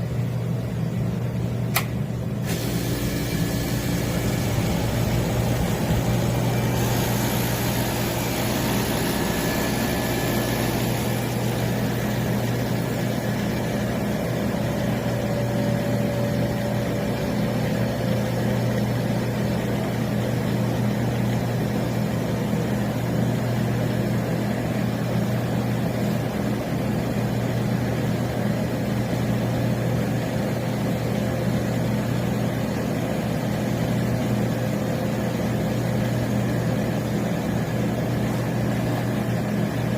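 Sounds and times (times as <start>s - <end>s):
freezer humming: 0.0s - 39.9s.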